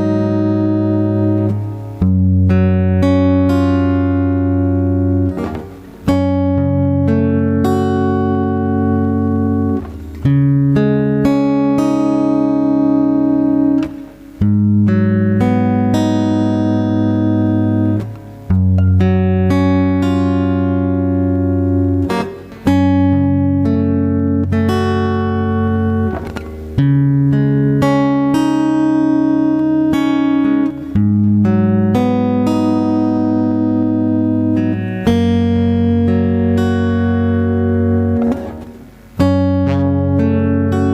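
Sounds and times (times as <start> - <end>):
instrumental backing music chords: 0.0 - 40.9.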